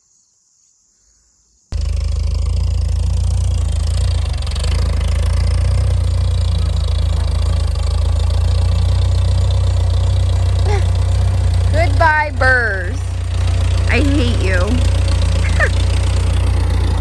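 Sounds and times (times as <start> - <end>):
tractor engine running: 1.8 - 17.0.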